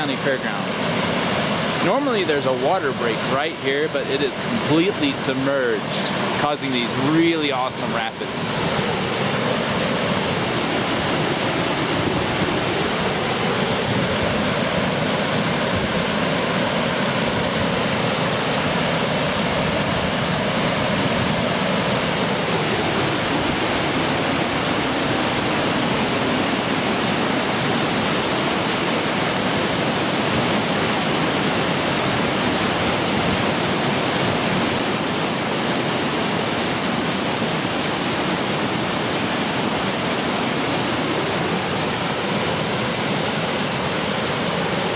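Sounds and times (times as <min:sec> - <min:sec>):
floodwater rushing over rapids: 0:00.0 - 0:44.9.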